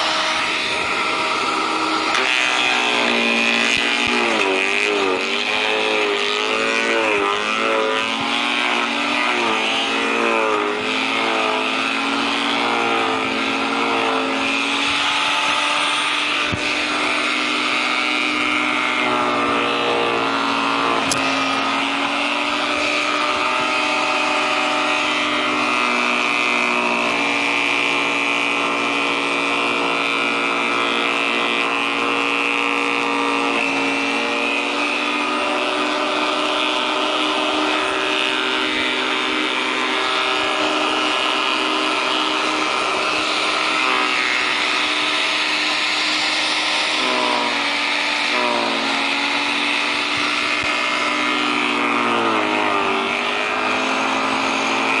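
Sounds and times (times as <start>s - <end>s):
garden shredder engine under load: 0.0s - 55.0s.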